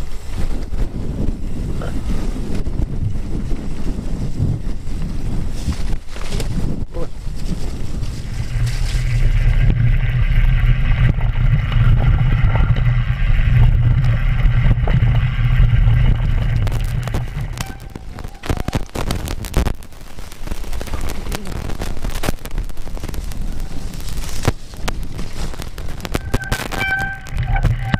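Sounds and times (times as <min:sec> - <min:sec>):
bike rattling: 0:00.0 - 0:27.9
tyre rumble: 0:00.0 - 0:27.9
wind buffeting microphone: 0:00.0 - 0:27.9.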